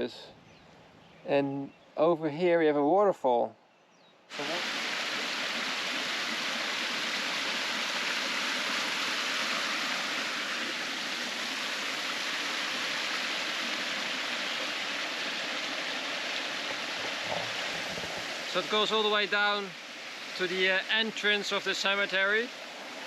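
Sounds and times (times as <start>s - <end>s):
stream running water: 4.3s - 23.0s.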